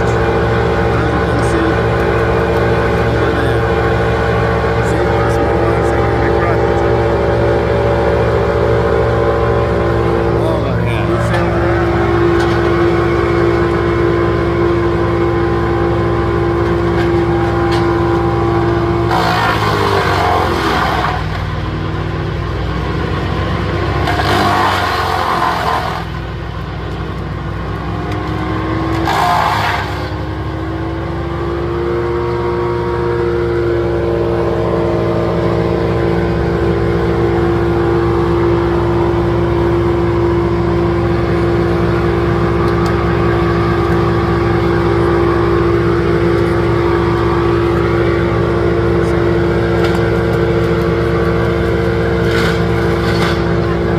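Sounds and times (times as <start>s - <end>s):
branches grinding in chipper: 0.0s - 53.9s
wood chipper engine running: 0.0s - 53.9s.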